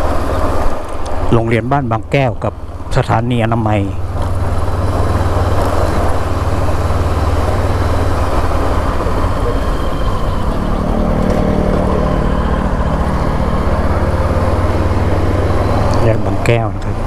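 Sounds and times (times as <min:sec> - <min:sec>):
motorcycle engine running: 0:00.0 - 0:17.0
steady pitched engine hum: 0:00.0 - 0:17.0
wind and road noise: 0:00.0 - 0:17.0.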